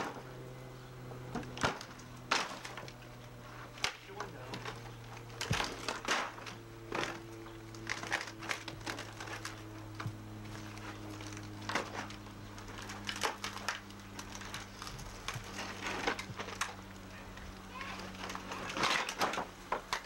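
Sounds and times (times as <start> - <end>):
steady low hum: 0.0 - 20.0
wood cracking and knocking: 1.3 - 17.5, 18.2 - 20.0.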